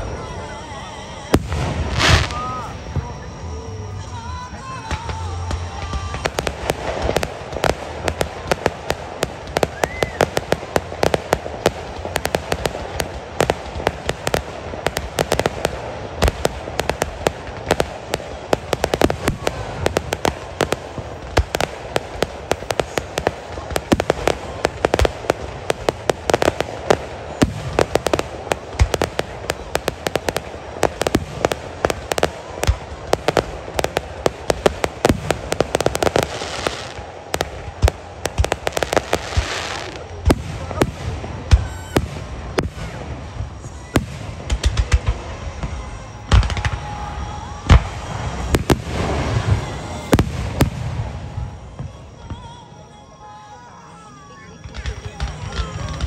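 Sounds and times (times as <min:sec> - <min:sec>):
fireworks cracking and banging: 0:00.0 - 0:53.2, 0:54.1 - 0:56.0.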